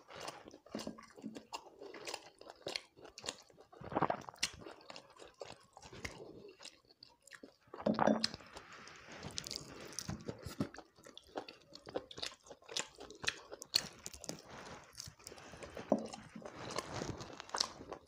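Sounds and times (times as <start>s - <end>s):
chewing with wet clicks and crunches: 0.0s - 18.0s.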